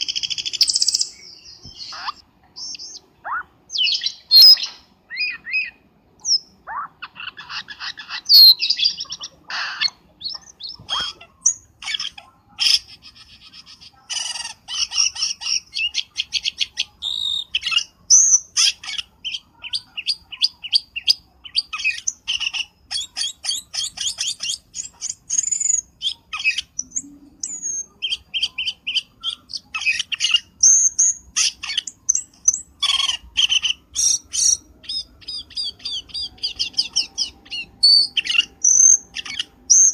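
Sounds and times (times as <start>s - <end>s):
bird chattering and whistling: 0.0s - 39.9s.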